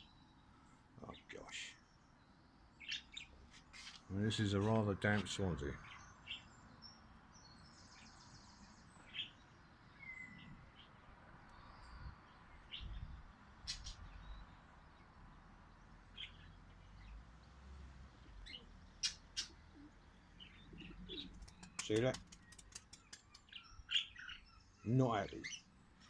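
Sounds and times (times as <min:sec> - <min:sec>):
faint bird chirps: 0:00.0 - 0:17.2, 0:18.2 - 0:26.0
low steady background: 0:00.0 - 0:26.0.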